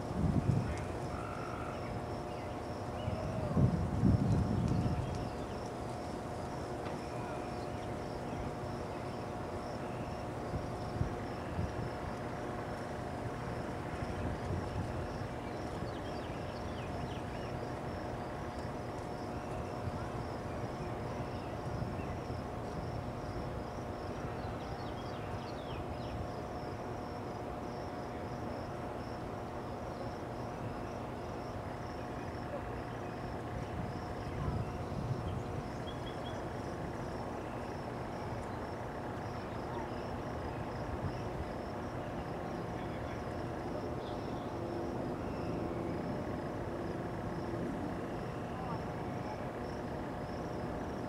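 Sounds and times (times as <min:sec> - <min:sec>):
crickets trilling: 0:00.0 - 0:51.0
faint hum: 0:00.0 - 0:51.0
low steady rumble: 0:00.0 - 0:51.0.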